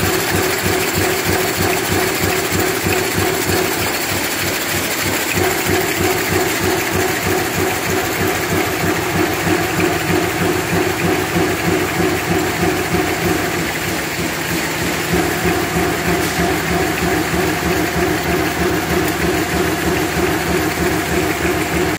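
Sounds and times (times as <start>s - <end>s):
production line machinery hum: 0.0s - 21.9s.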